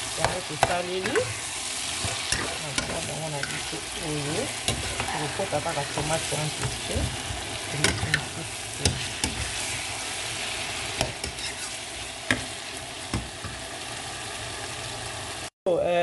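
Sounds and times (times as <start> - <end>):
vegetables sizzling in oil: 0.0 - 15.5.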